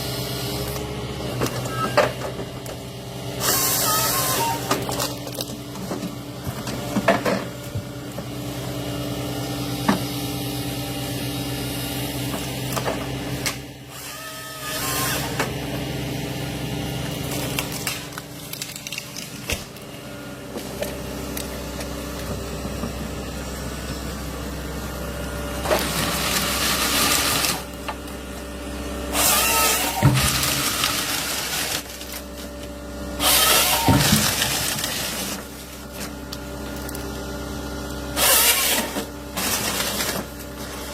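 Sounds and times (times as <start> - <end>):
heavy machinery engine hum: 0.0 - 40.9.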